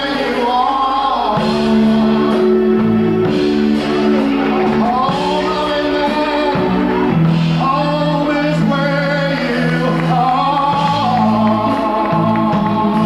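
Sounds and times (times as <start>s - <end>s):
backing music with held chords: 0.0s - 13.0s
man singing into microphone: 0.0s - 13.0s.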